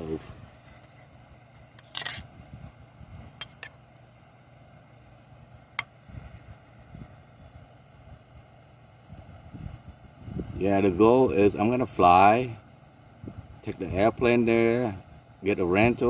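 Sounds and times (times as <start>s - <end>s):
stove burner hissing: 0.0s - 16.0s.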